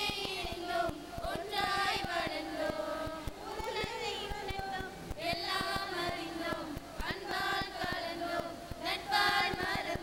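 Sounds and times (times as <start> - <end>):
girls singing in unison: 0.0 - 10.0.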